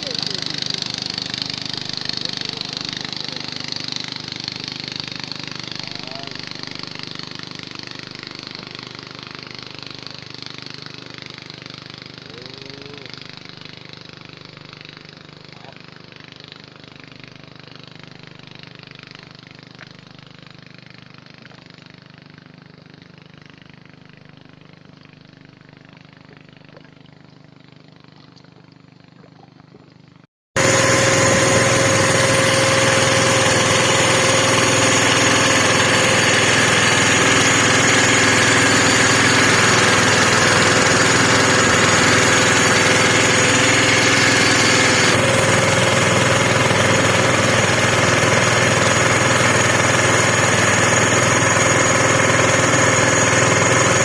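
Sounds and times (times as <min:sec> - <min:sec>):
loud engine running close by: 0:00.0 - 0:28.2, 0:30.6 - 0:54.0
engine running: 0:00.0 - 0:54.0.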